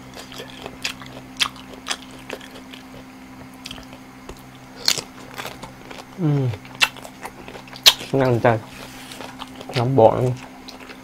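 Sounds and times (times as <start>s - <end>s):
low steady hum: 0.0s - 11.0s
person chewing crunchy food: 0.0s - 11.0s.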